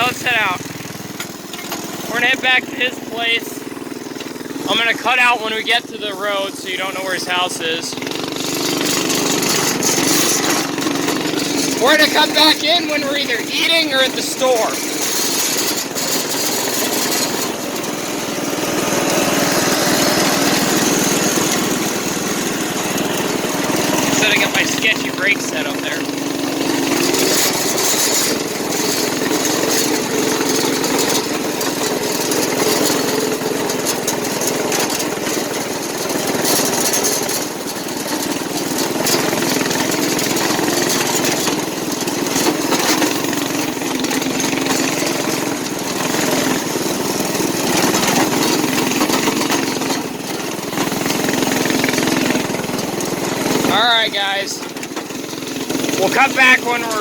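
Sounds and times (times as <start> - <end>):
small gas engine running: 0.0 - 57.0.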